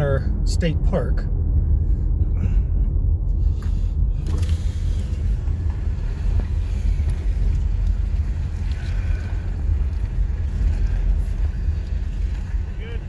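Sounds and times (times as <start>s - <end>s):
car engine at highway speed: 0.0s - 13.0s
tyre road noise: 0.0s - 13.0s.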